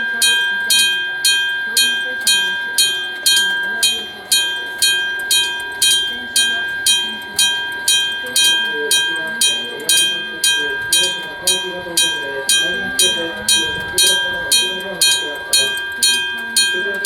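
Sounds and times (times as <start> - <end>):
level-crossing bell ringing: 0.0 - 17.0.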